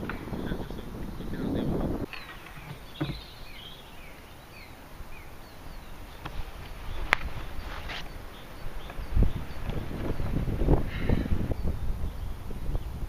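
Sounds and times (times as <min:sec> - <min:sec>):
birds chirping: 0:00.0 - 0:13.0
light wind: 0:00.0 - 0:13.0.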